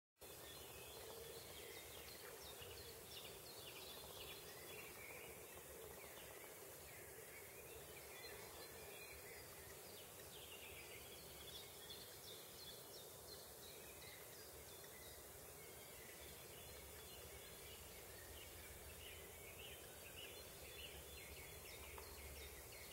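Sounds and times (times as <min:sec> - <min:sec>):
small birds chirping: 0:00.2 - 0:22.9
steady background hiss: 0:00.2 - 0:22.9.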